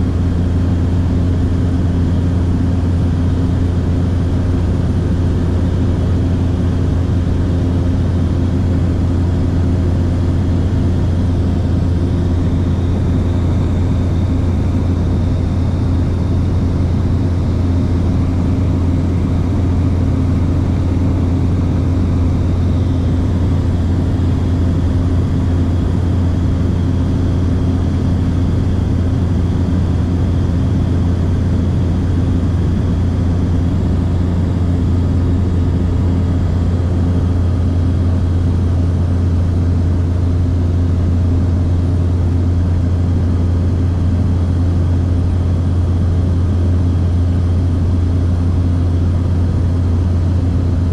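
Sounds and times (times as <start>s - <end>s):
aircraft engine and propeller drone: 0.0s - 50.9s.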